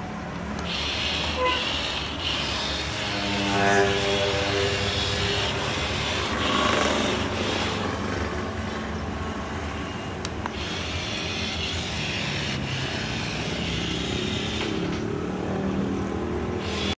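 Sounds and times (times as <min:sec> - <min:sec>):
toy motors and gears whirring: 0:00.5 - 0:08.8, 0:09.6 - 0:15.3, 0:16.6 - 0:17.0.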